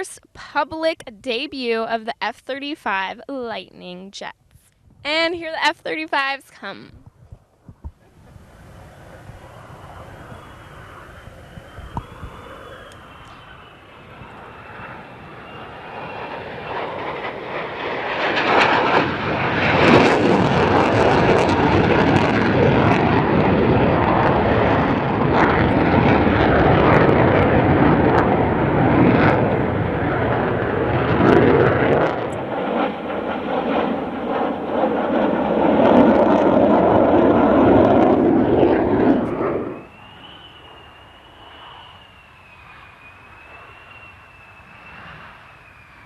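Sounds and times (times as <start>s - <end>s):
fighter jets flying past: 6.2s - 46.0s.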